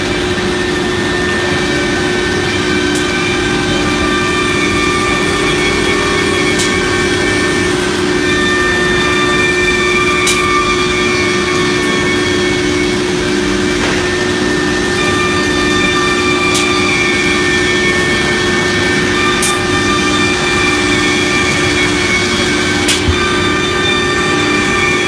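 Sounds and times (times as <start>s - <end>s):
router spindle whine: 0.0s - 25.0s.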